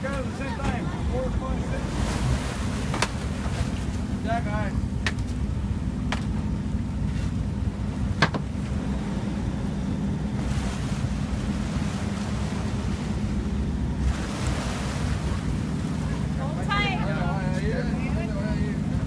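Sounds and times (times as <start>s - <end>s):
boat engine running: 0.0s - 19.0s
water splashing at hull: 0.0s - 19.0s.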